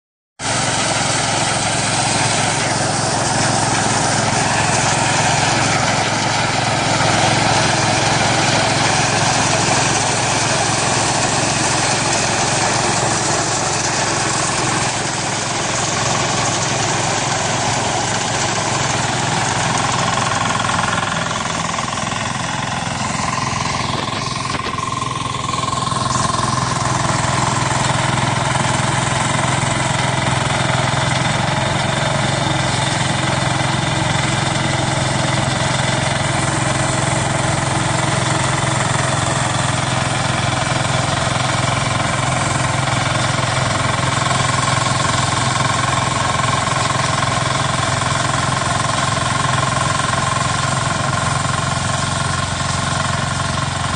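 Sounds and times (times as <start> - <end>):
cutter and threshing drum noise: 0.4 - 53.9
diesel engine running: 0.4 - 53.9.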